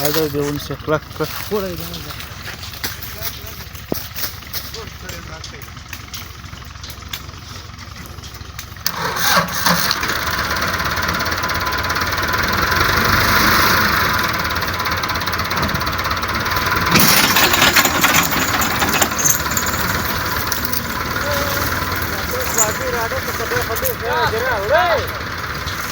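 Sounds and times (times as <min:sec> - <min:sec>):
tractor engine revving hard: 0:00.0 - 0:25.9.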